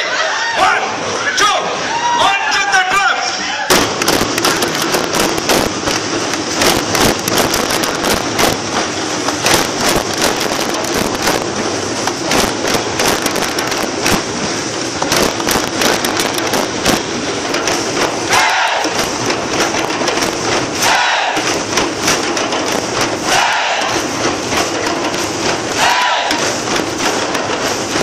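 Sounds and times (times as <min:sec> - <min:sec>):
crowd drumming on djembes: 0:03.7 - 0:28.0.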